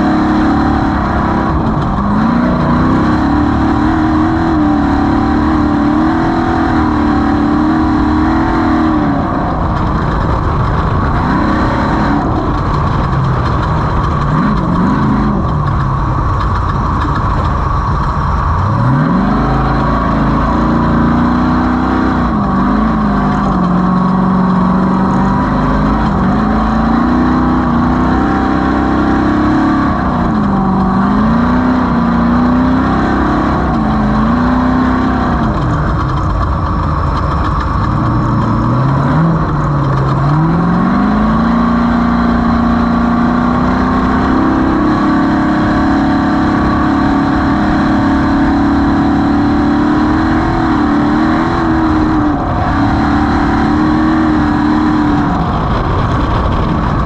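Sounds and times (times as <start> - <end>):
low rumble: 0.0 - 57.0
off-road vehicle engine running hard: 0.0 - 57.0.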